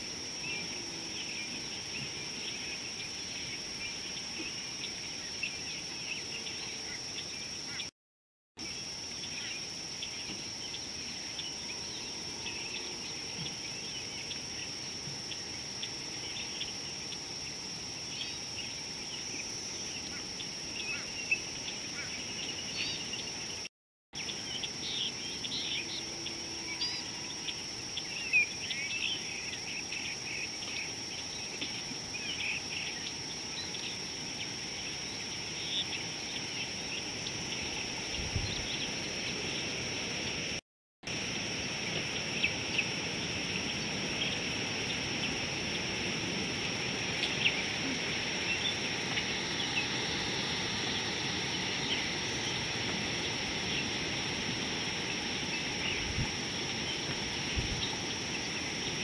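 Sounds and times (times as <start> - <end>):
high-pitched insect drone: 8.6 - 59.0.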